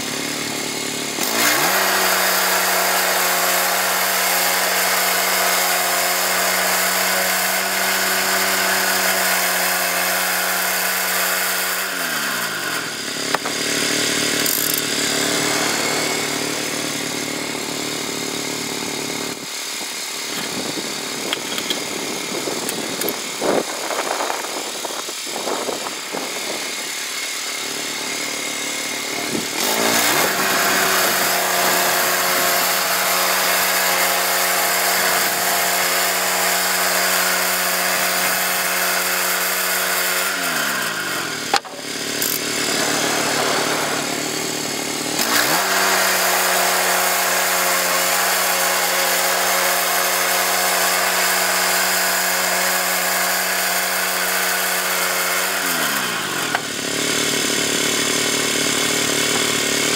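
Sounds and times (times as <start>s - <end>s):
band blade cutting log: 0.0s - 59.9s
bandsaw mill engine running: 0.0s - 59.9s.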